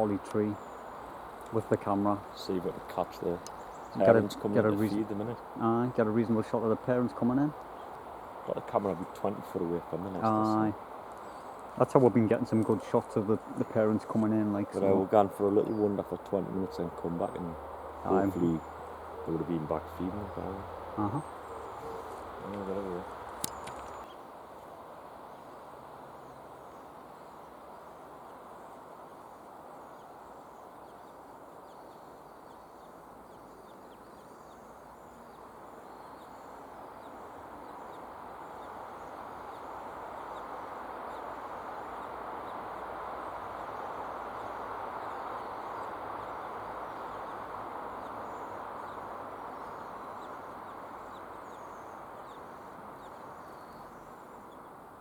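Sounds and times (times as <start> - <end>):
faint high bird chirps: 8.6 - 24.2, 26.2 - 54.8.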